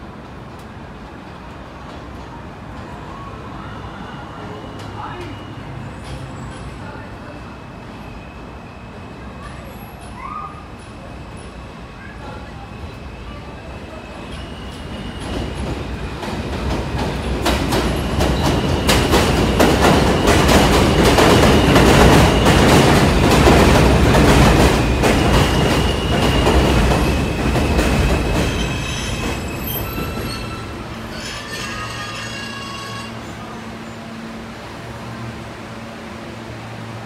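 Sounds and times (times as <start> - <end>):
subway train rumbling: 0.0 - 37.0.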